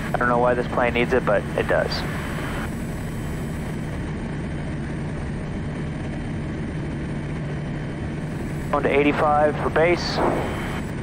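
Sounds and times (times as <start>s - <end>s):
turboprop engine drone: 0.0s - 11.0s.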